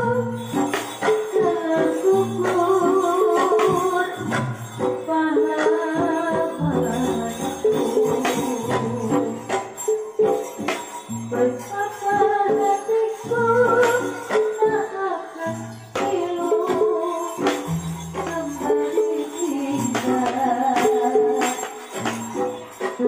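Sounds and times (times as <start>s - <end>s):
person singing: 0.0s - 10.6s, 11.3s - 23.0s
drum strokes: 0.0s - 14.9s, 15.5s - 23.0s
jingling struck percussion: 0.0s - 23.0s.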